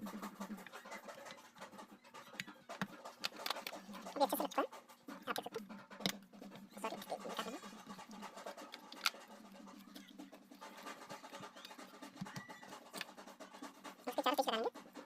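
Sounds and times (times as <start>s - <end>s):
plastic parts scratching and clicking: 0.4s - 15.0s.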